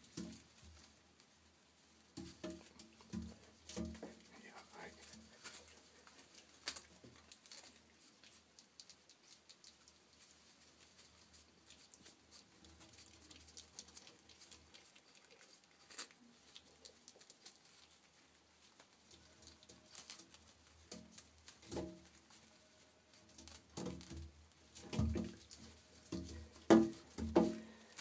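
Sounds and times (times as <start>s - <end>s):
rat scratching a brush: 3.4s - 28.0s.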